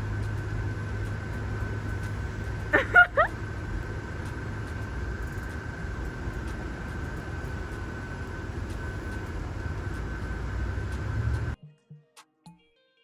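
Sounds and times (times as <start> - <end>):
low outdoor rumble: 0.0 - 11.6.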